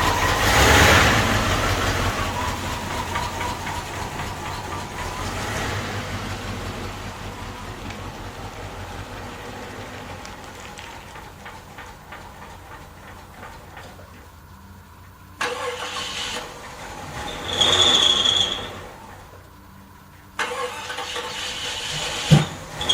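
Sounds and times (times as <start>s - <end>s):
car engine running: 0.0s - 22.9s
steady tone over hiss: 1.3s - 22.8s.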